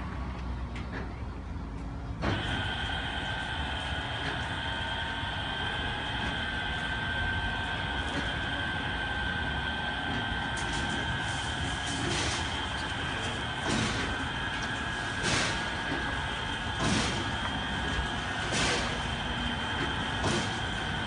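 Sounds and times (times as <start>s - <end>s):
car wash machine running: 2.1s - 21.0s.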